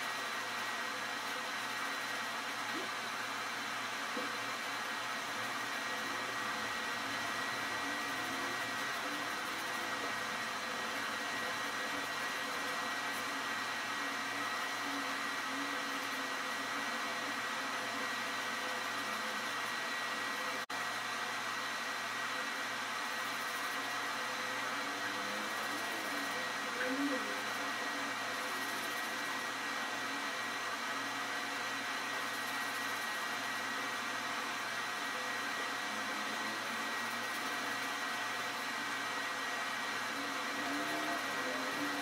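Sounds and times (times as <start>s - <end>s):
whirring hum with high tone: 0.0s - 42.0s.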